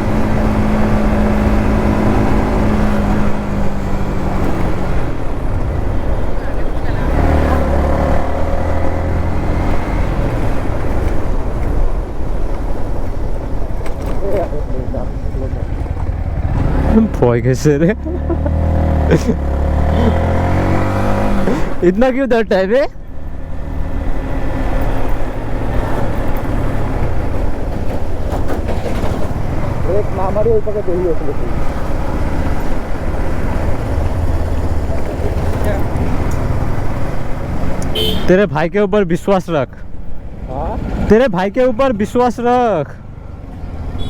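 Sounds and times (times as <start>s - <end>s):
motorcycle engine running: 0.0s - 21.9s, 22.9s - 38.3s
wind and road rush: 0.0s - 44.0s.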